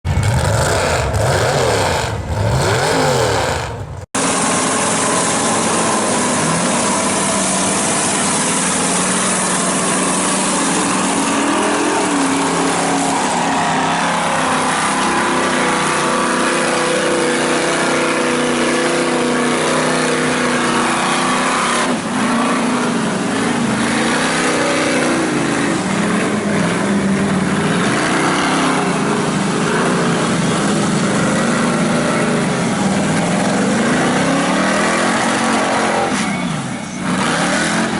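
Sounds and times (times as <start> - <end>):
loud rush of noise: 0.0 - 37.9
truck engines revving: 0.0 - 37.9.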